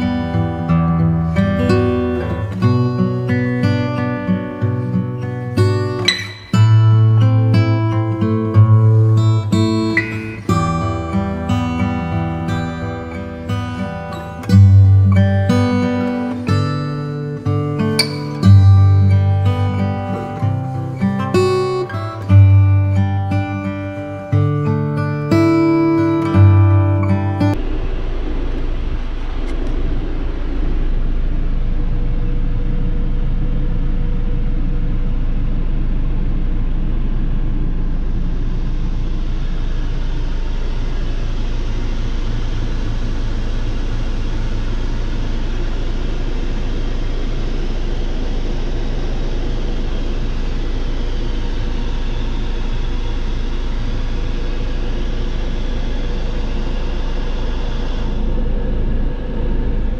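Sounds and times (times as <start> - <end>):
bright hiss: 0.0 - 34.7, 37.8 - 59.9
tractor diesel engine droning: 7.9 - 59.9.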